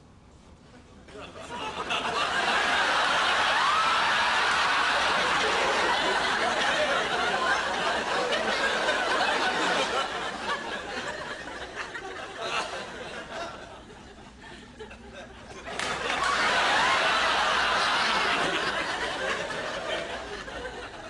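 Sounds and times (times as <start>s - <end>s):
group of people laughing: 1.1s - 21.0s.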